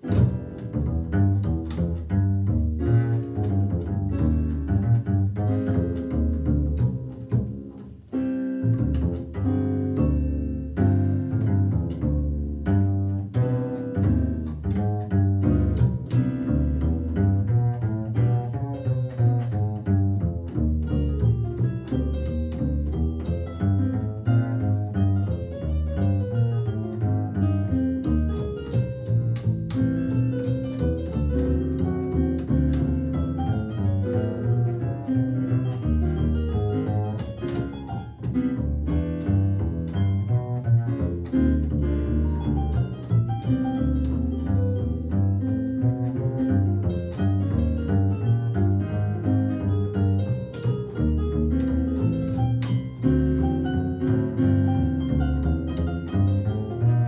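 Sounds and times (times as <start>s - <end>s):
instrumental jazz: 0.0s - 57.0s
plucked bass line: 0.0s - 57.0s.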